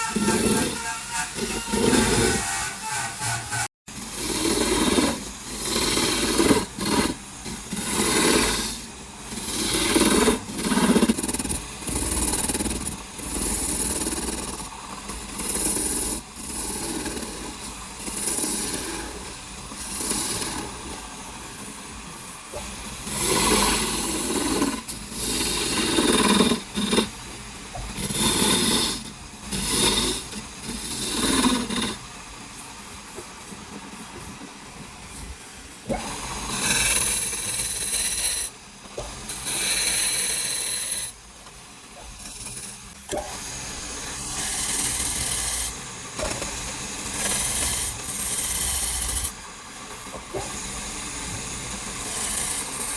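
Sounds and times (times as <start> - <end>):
power tools working wood: 0.0 - 32.4, 35.2 - 41.2, 42.0 - 52.9.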